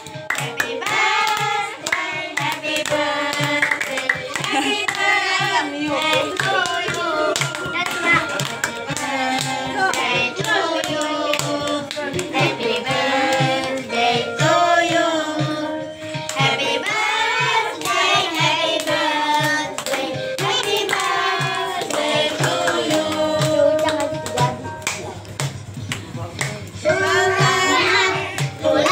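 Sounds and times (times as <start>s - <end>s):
hands clapping along: 0.0s - 14.5s, 16.2s - 27.7s, 28.3s - 28.9s
voices singing together: 0.0s - 24.6s, 26.6s - 28.9s.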